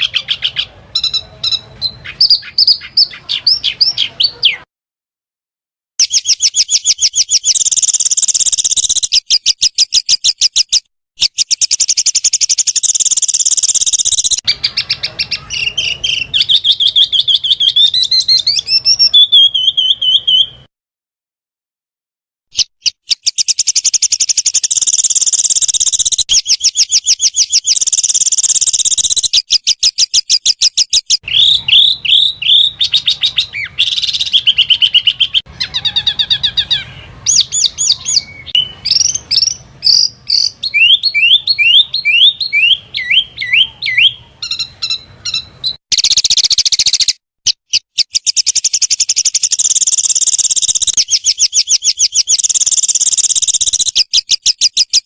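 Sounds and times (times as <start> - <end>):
small songbirds calling: 0.0 - 4.7, 6.0 - 20.7, 22.5 - 55.0
fast bird trills: 6.0 - 20.6, 22.5 - 55.0
high-pitched bird bursts: 6.0 - 20.7, 22.5 - 55.0.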